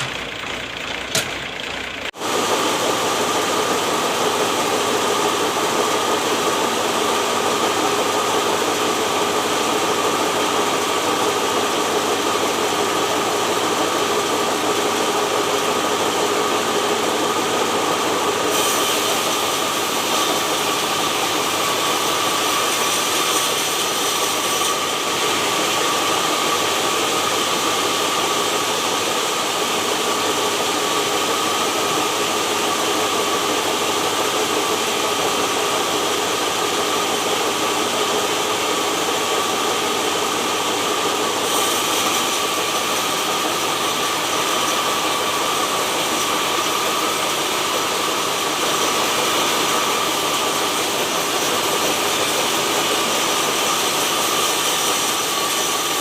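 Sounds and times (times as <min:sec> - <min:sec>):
sawmill machinery hiss and whine: 0:00.0 - 0:56.0.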